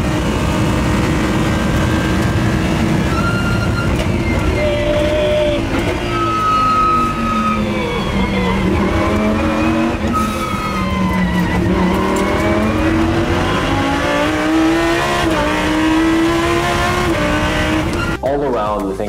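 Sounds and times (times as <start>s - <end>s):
race car engine revving: 0.0s - 18.2s.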